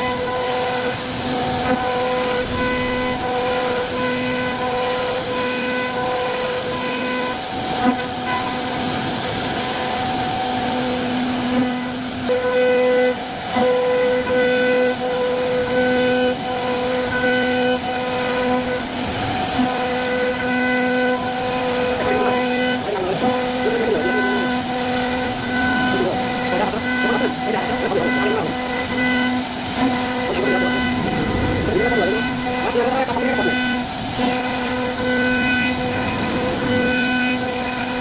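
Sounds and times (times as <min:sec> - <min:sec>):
router whine cutting wood: 0:00.0 - 0:38.0.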